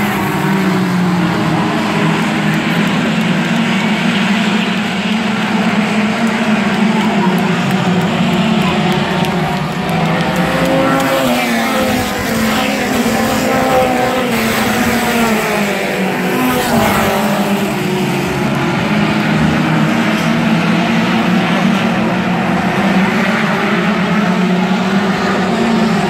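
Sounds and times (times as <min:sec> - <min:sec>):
race car engines: 0:00.0 - 0:26.0
race cars passing close by: 0:00.0 - 0:26.0.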